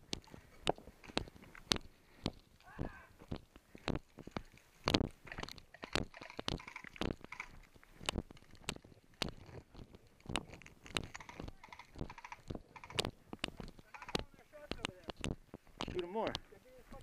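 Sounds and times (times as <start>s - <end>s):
footsteps on gravel: 0.0s - 17.0s.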